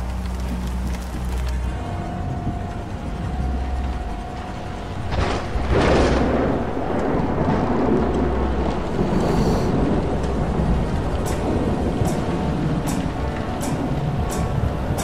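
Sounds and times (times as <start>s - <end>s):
falling rain: 0.0s - 15.0s
thunder clap and rumble: 0.0s - 15.0s.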